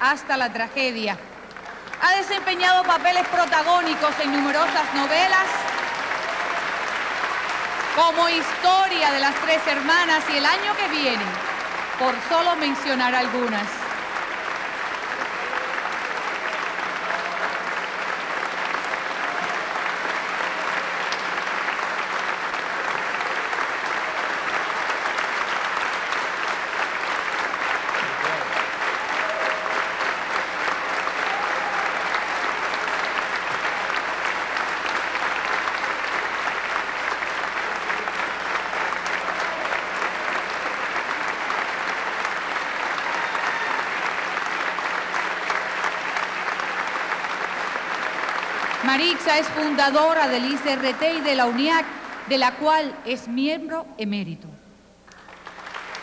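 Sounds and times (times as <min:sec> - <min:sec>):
audience applauding: 0:01.4 - 0:52.7, 0:55.1 - 0:56.0.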